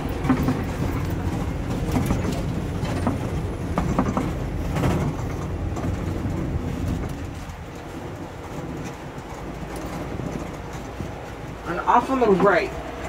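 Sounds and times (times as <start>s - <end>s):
truck engine and road noise: 0.0s - 13.0s
vehicle body rattles and knocks: 0.0s - 13.0s.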